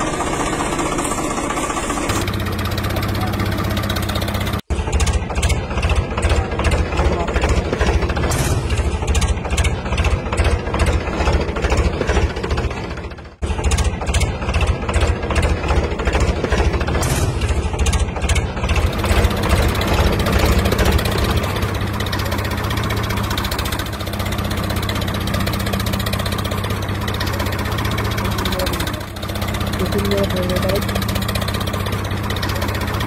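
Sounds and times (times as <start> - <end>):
tractor engine chugging: 0.0 - 33.0.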